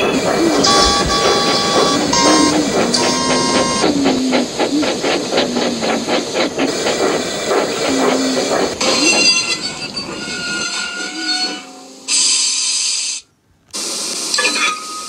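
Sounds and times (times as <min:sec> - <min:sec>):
steady hissing: 0:00.0 - 0:10.6, 0:12.1 - 0:14.4.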